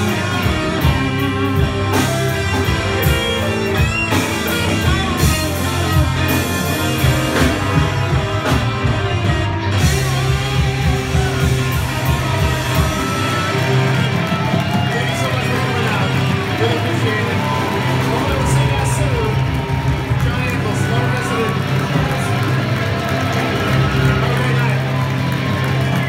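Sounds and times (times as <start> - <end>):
electric guitars: 0.0 - 26.0
rock band playing loudly: 0.0 - 26.0
strings and horns: 0.0 - 26.0.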